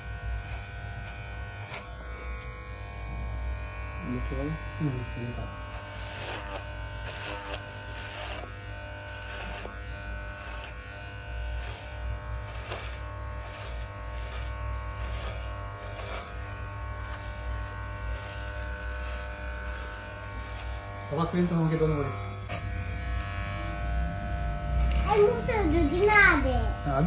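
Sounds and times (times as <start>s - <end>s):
clipper blades cutting hair: 0.0s - 27.0s
electric hair clipper buzzing: 0.0s - 27.0s.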